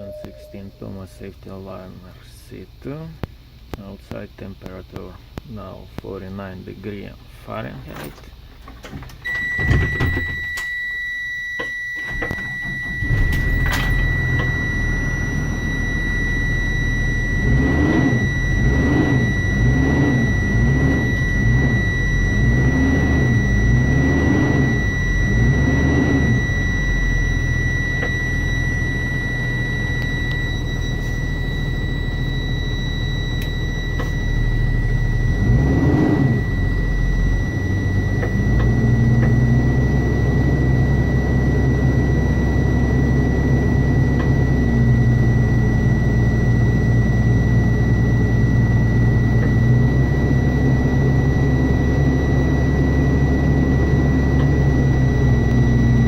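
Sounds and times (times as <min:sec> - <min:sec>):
thin high whine: 0:00.0 - 0:03.2, 0:08.9 - 0:56.0.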